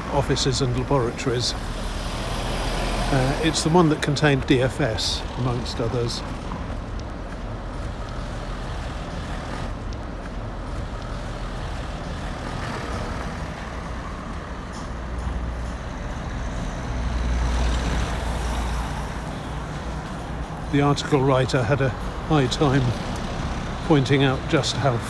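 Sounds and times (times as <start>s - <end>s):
heavy vehicle passing close: 0.0s - 25.0s
road traffic passing: 0.0s - 25.0s.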